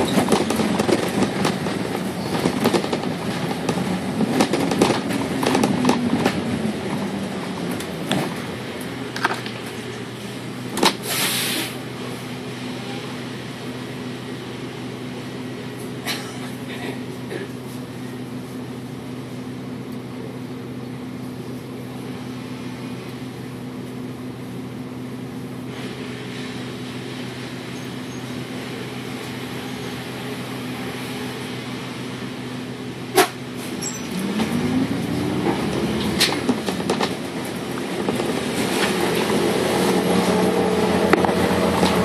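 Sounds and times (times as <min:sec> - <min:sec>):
bus engine revving: 0:00.0 - 0:17.5, 0:25.7 - 0:42.0
bus diesel engine idling: 0:00.0 - 0:42.0.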